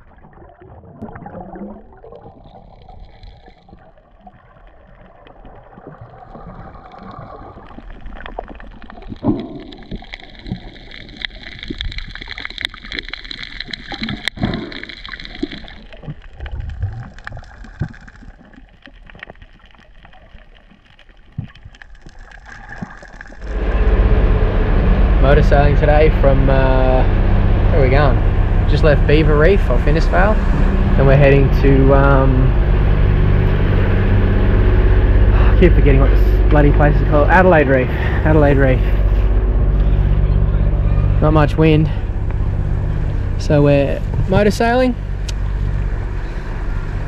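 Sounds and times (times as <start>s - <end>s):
water gurgling and sloshing: 0.0s - 47.0s
boat motor rumbling: 1.0s - 19.2s, 23.2s - 47.0s.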